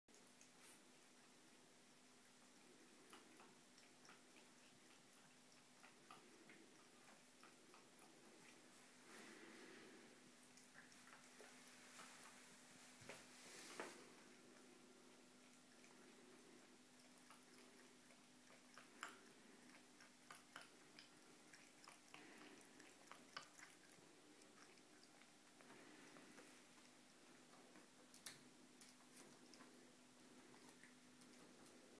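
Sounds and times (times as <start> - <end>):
cat lapping water: 0.1 - 31.9
low steady hum: 0.1 - 31.9.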